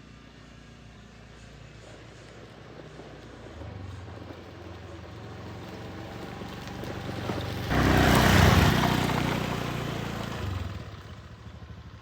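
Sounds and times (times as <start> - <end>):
vehicle engine running: 0.9 - 12.0.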